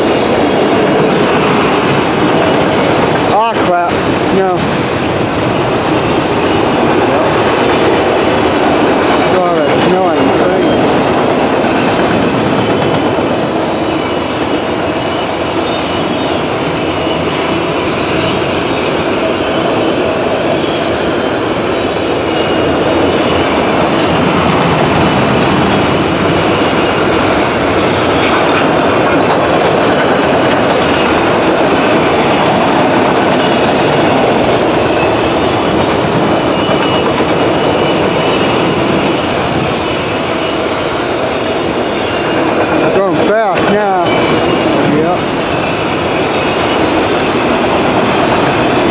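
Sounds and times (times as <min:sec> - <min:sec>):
freight train wheels on rails: 0:00.0 - 0:48.9.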